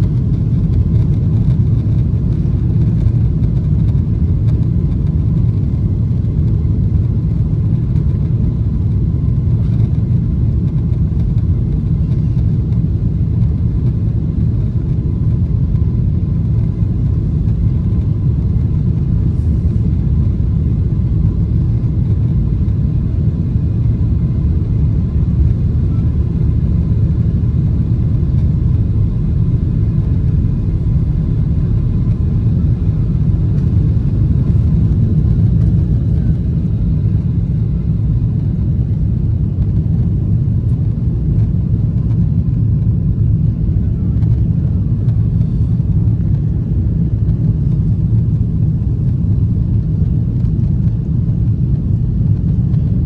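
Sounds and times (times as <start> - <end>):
jet engines rumbling in cabin: 0.0 - 53.0.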